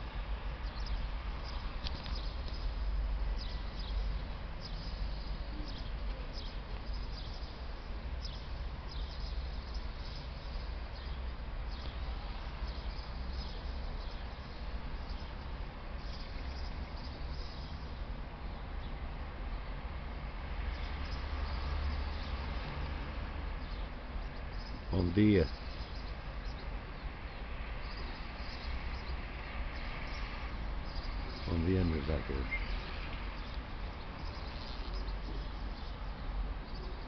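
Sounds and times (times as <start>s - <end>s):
low rumble and hiss: 0.0s - 37.0s.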